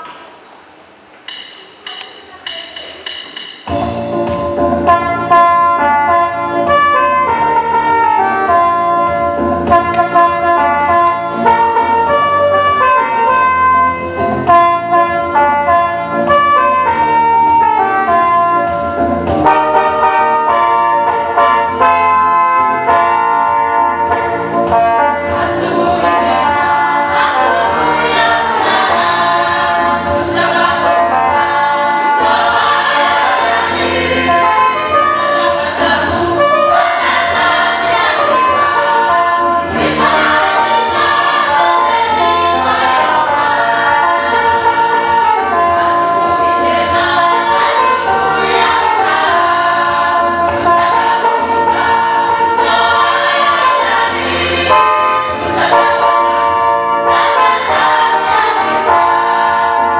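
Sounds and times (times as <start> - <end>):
choir singing gospel: 3.6 - 59.9.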